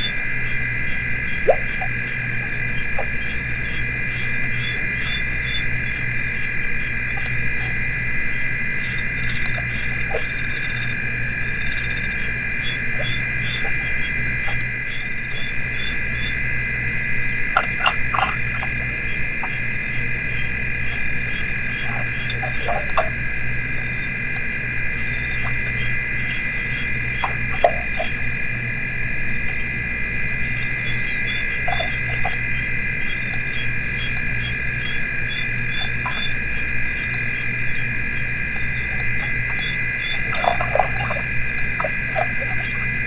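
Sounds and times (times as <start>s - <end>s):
frog chirping: 0.0s - 43.0s
frogs trilling: 0.0s - 43.0s
low hum: 0.0s - 43.0s.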